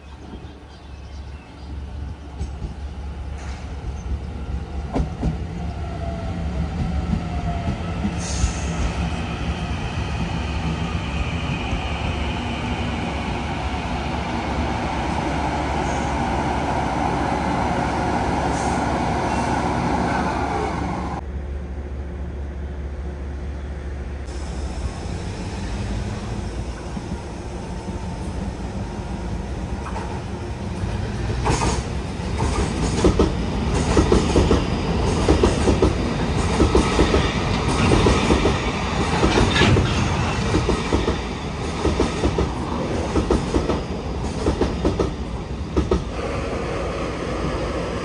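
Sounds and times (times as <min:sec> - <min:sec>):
train wheels rumbling on rail: 0:00.0 - 0:21.2, 0:24.2 - 0:48.0.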